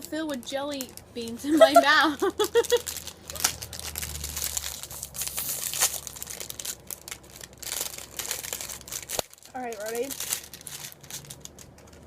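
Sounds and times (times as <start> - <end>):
candy wrapper crinkling and tearing: 0.0 - 1.5, 2.2 - 12.0.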